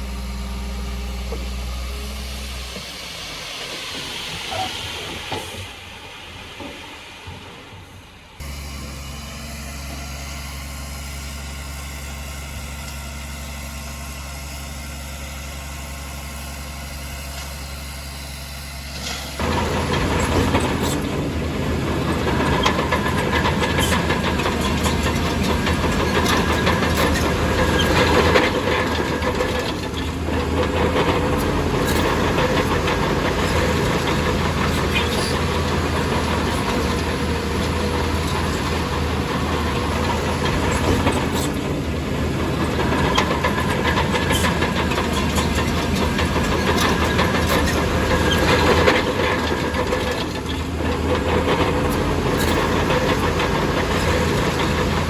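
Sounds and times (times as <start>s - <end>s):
steel tracks clanking: 0.0s - 10.4s, 16.9s - 55.0s
bulldozer diesel engine: 0.0s - 55.0s.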